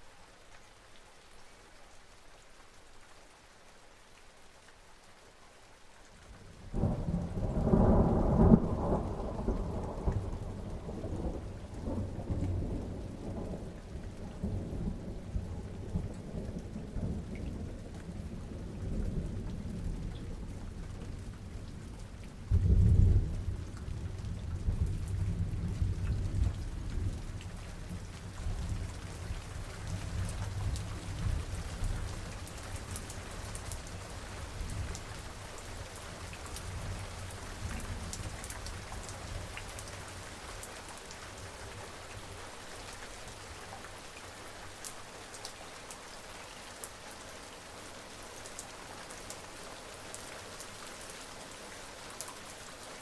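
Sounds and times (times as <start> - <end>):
rain: 0.0 - 53.0.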